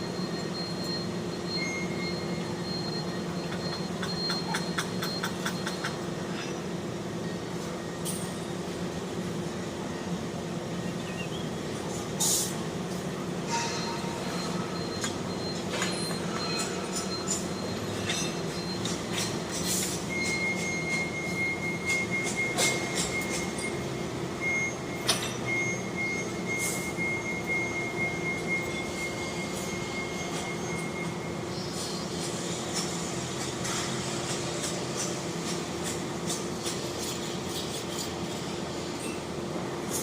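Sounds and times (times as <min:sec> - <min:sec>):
construction machinery humming: 0:00.0 - 0:40.0.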